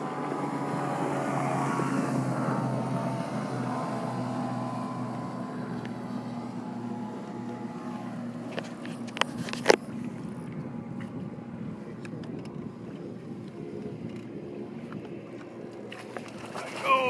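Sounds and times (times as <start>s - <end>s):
boat motor hum: 0.0s - 17.0s
water: 0.0s - 17.0s
wind: 0.0s - 17.0s.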